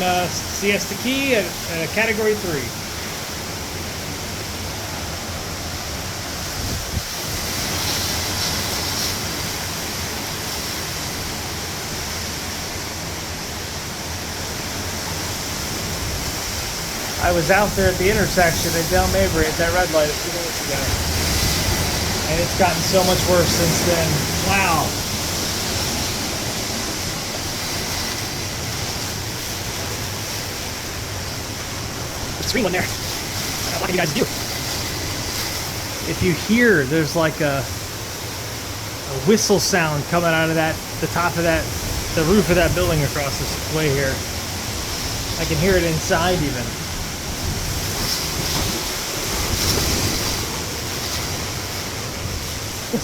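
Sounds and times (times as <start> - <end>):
wind and rain rushing: 0.0 - 53.0.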